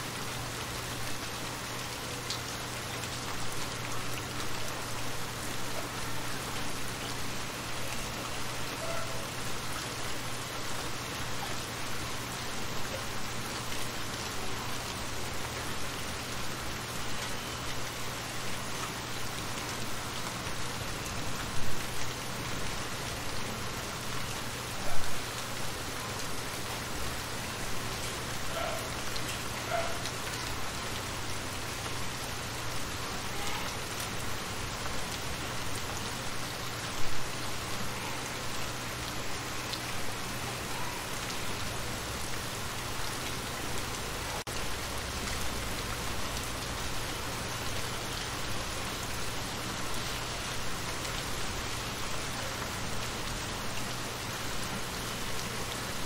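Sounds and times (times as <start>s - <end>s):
rain falling on shallow water: 0.0s - 56.0s.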